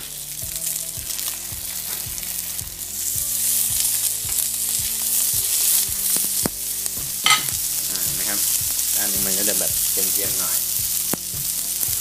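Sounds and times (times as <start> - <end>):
fish sizzling in a grill pan: 0.0 - 12.0.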